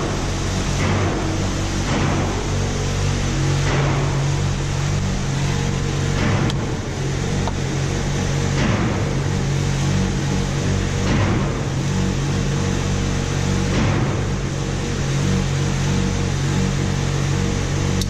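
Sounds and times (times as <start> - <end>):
road and engine noise in car: 0.0 - 18.0.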